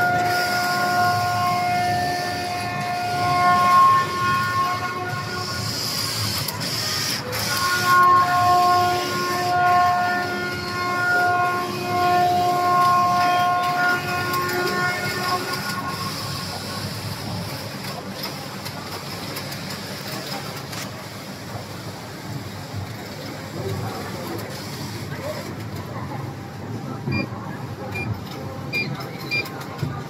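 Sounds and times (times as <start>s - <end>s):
knitting machine whine: 0.0s - 25.6s
mechanical hum: 0.0s - 30.0s.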